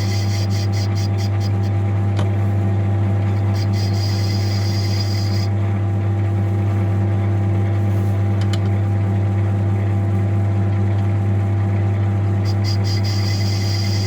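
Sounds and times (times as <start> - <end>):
lathe motor hum: 0.0 - 14.0.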